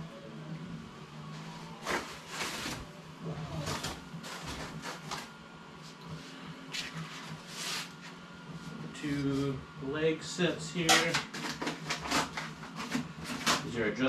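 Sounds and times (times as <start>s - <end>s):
faint steady hum: 0.0s - 14.0s
scraping and rustling of packaging: 1.3s - 9.6s, 10.8s - 13.8s.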